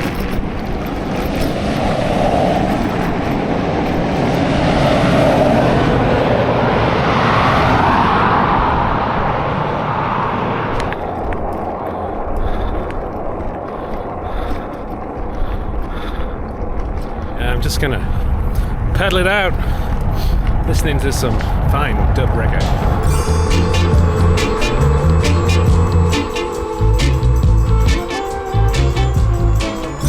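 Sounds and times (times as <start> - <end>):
bike tyres on dirt road: 0.0 - 27.6
wind rushing over microphone: 0.0 - 30.0.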